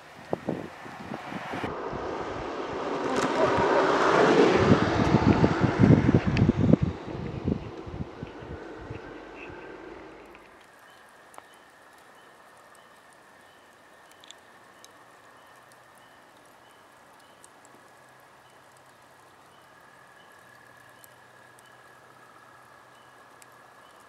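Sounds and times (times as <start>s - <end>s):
fire embers crackling: 0.0s - 24.0s.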